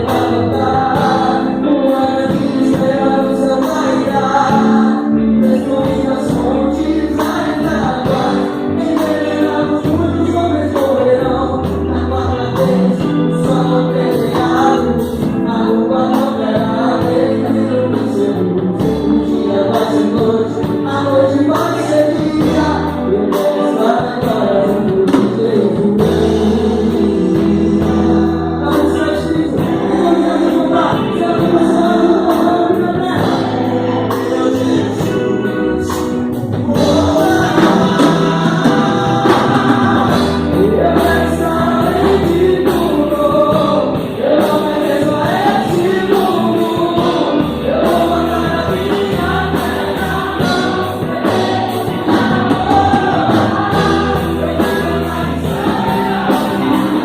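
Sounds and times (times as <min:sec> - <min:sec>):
gospel band with group singing: 0:00.0 - 0:57.0.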